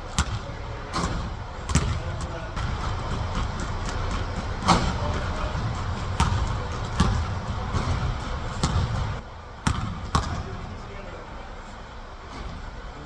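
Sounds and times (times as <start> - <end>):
low background noise: 0.0 - 13.0
basketball bouncing on hard court: 0.1 - 10.7.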